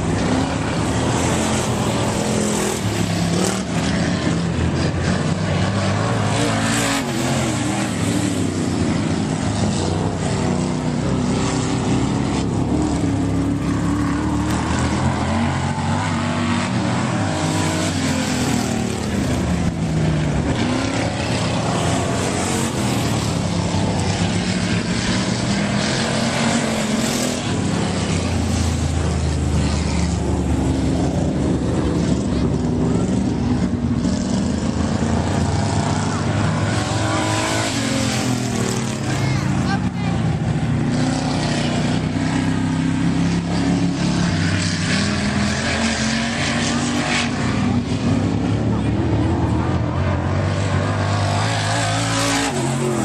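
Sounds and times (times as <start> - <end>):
stock car engines revving: 0.0 - 53.0.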